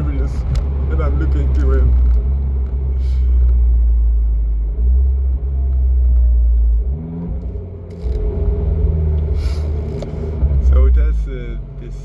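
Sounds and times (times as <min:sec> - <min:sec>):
car exhaust deep rumble: 0:00.0 - 0:12.0.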